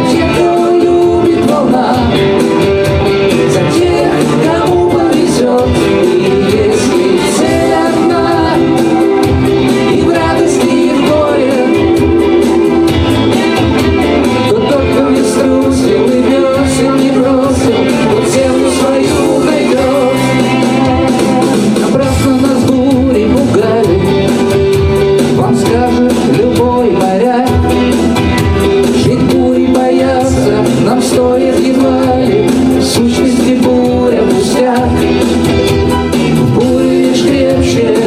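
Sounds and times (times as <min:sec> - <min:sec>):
bass line: 0:00.0 - 0:38.0
live band music: 0:00.0 - 0:38.0
person singing: 0:00.0 - 0:38.0.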